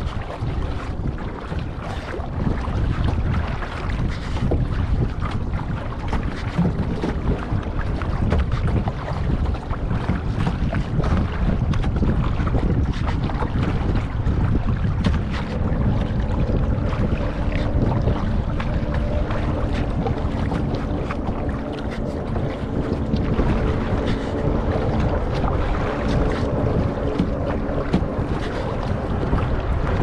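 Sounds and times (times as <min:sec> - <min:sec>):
small waves splashing against kayak: 0:00.0 - 0:30.0
wind buffeting microphone: 0:00.0 - 0:30.0.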